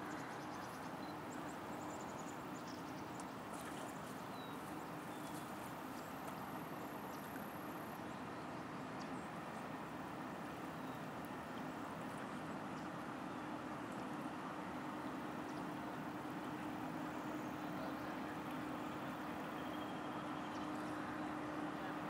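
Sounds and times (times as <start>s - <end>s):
ship engines droning: 4.2s - 22.0s.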